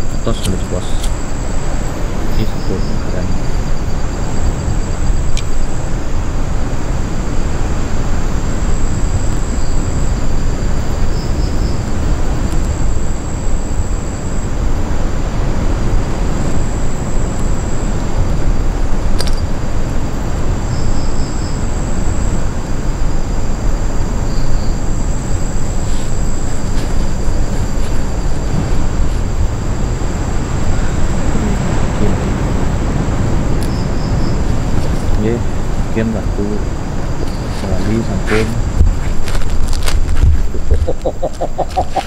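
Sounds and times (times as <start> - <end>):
low rumbling noise: 0.0 - 42.0
thin high whine: 0.0 - 42.0.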